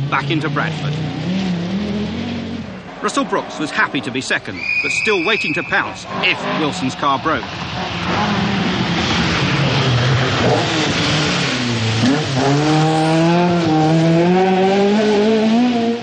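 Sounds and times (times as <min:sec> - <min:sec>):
rally car engine at full throttle: 0:00.0 - 0:04.6, 0:05.6 - 0:16.0
tyre and road noise: 0:00.0 - 0:16.0.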